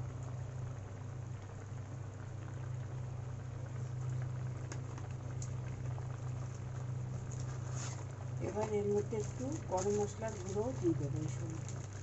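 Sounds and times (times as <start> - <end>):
curry bubbling in wok: 0.0 - 12.0.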